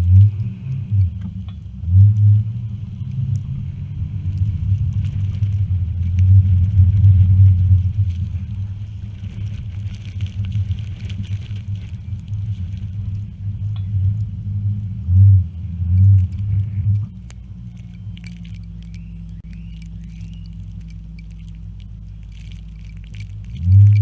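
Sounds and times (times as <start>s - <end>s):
engine and tyres rumbling: 0.0s - 24.0s.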